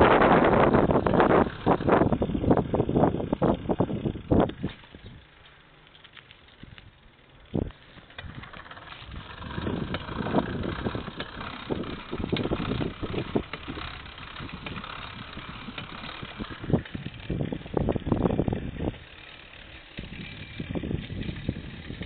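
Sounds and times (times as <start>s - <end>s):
wind buffeting microphone: 0.0s - 5.3s, 6.6s - 22.0s.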